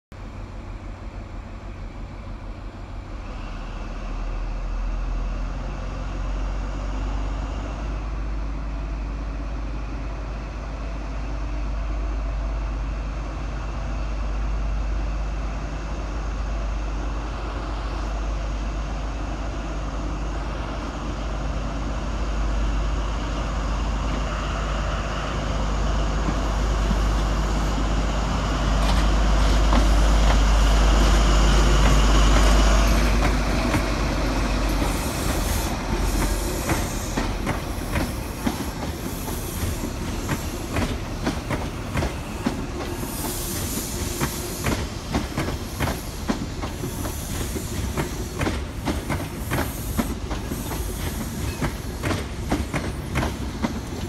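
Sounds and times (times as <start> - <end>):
diesel train engine humming: 0.1 - 54.0.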